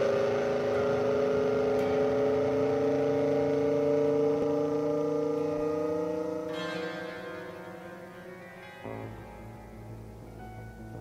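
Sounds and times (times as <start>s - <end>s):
road noise: 0.0s - 10.4s
car engine accelerating: 0.0s - 11.0s.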